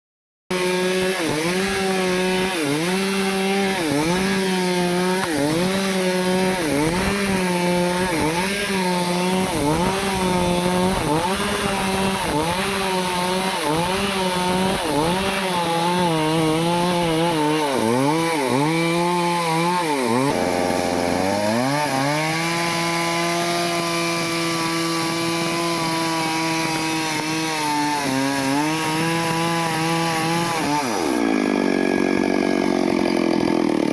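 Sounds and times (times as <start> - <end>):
chainsaw cutting into tree: 0.5 - 33.9.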